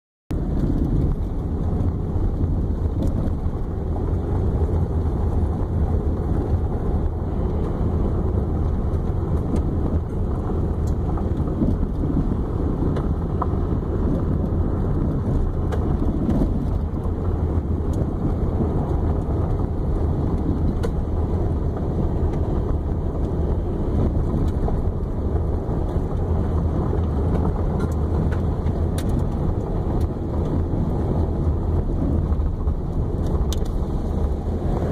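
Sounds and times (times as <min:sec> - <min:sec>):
tyres and engine rumbling: 0:00.3 - 0:34.9.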